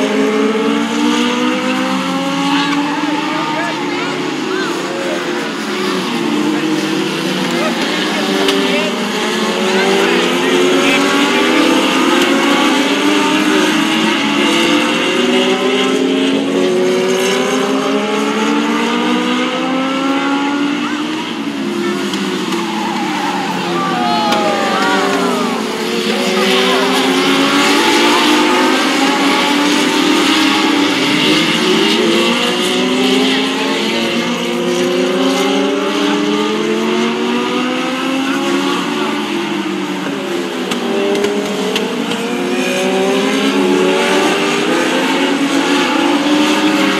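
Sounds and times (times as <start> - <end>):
race car engines whining: 0.0 - 46.9.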